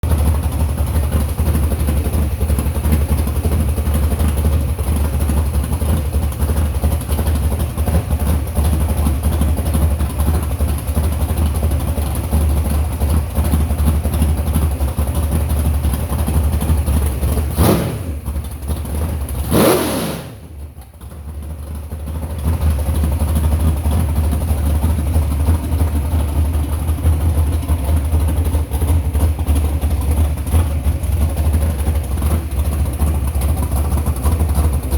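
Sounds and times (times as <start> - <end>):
car engine idling with loud rumble: 0.0 - 34.9.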